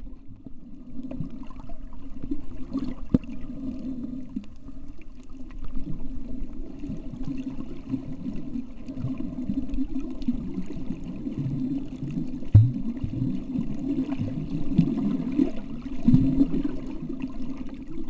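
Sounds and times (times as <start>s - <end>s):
muffled underwater churning rush: 0.0s - 18.0s.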